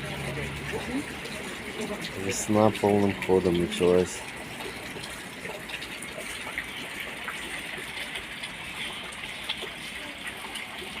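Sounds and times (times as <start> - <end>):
meltwater trickling from roof: 0.0 - 11.0.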